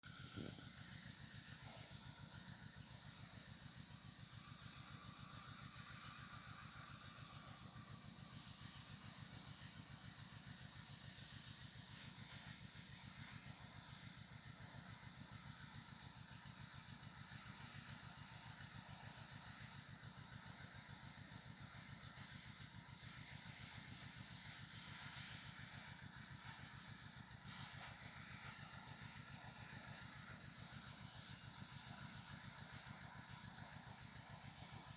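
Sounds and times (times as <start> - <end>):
small engine running: 0.0 - 34.9
hiss of spray: 0.1 - 34.9.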